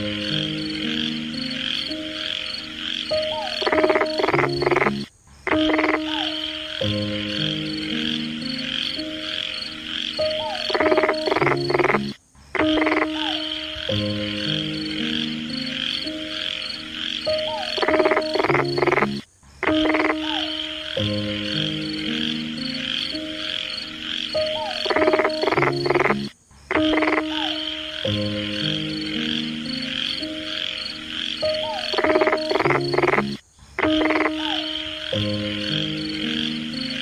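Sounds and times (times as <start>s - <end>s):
frogs croaking: 0.0s - 37.0s.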